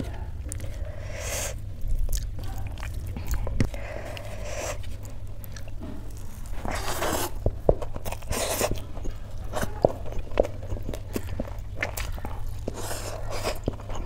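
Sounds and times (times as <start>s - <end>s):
close-up chewing: 0.0s - 14.0s.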